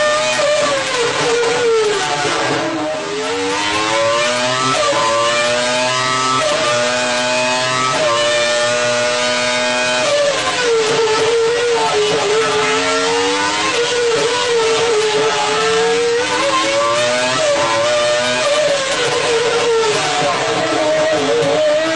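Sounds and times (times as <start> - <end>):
racing car engine at high revs: 0.0 - 21.9.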